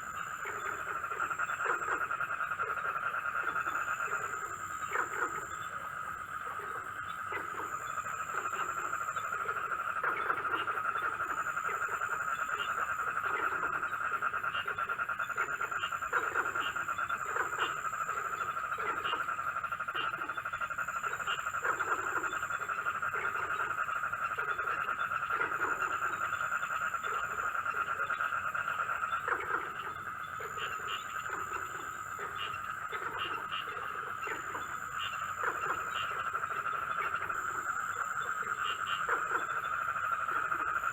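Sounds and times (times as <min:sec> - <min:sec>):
low frog croaks: 0:00.0 - 0:40.9.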